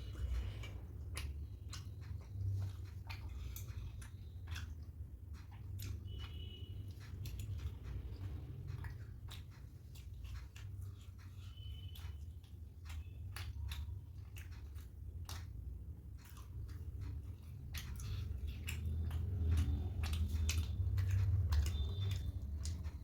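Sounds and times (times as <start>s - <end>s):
wet chewing and mouth clicks: 0.0s - 23.0s.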